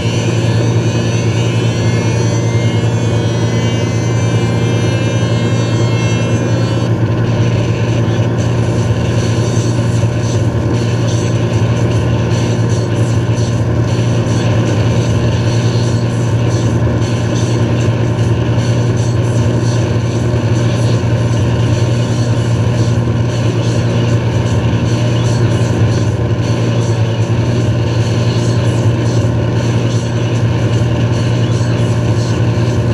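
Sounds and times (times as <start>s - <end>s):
boat engine droning: 0.0s - 32.9s.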